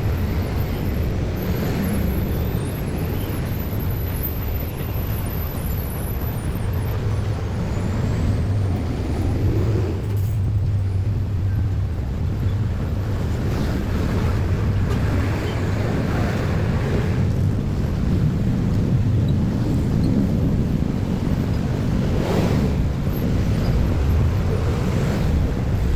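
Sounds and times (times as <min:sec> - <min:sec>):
heavy vehicles rumbling: 0:00.0 - 0:25.9.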